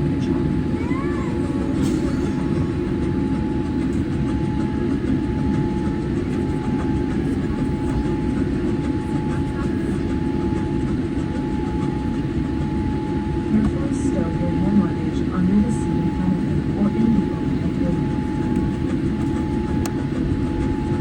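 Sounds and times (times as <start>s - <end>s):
airliner cabin rumble: 0.0s - 21.0s
faint steady whine: 0.0s - 21.0s.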